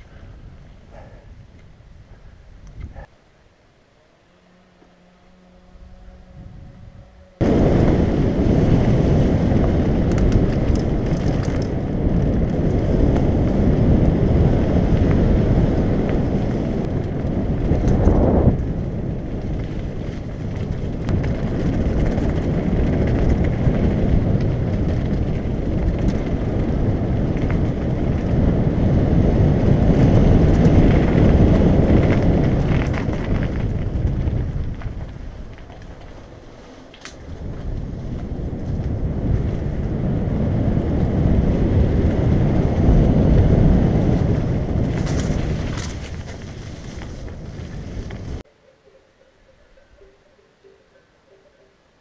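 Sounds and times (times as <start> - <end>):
wind buffeting microphone: 0.0 - 3.1, 5.6 - 49.0.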